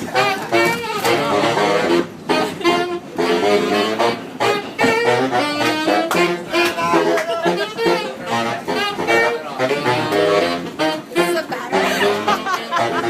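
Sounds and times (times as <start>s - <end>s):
backing instruments: 0.0s - 13.0s
saxophone playing fast jazz: 0.0s - 13.0s.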